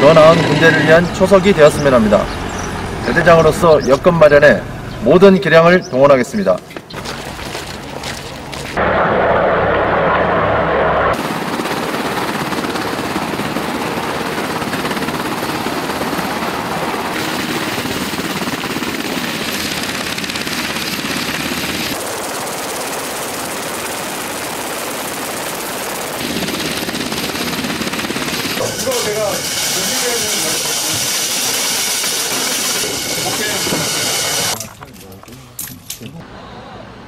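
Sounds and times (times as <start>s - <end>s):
helicopter hovering: 0.0s - 5.6s, 7.7s - 34.6s.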